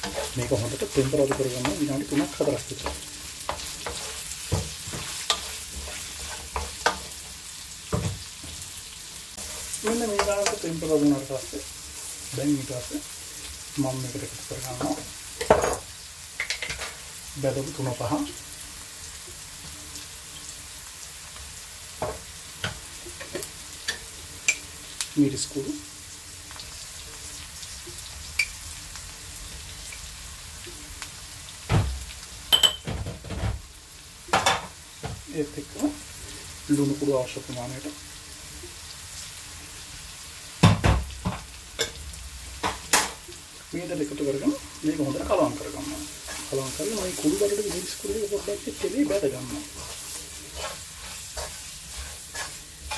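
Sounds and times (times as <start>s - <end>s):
food sizzling in oil: 0.0s - 52.9s.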